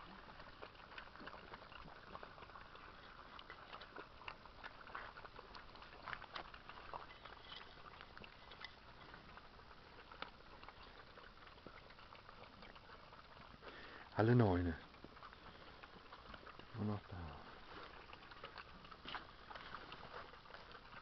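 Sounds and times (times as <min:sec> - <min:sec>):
puppies lapping food: 0:00.0 - 0:21.0.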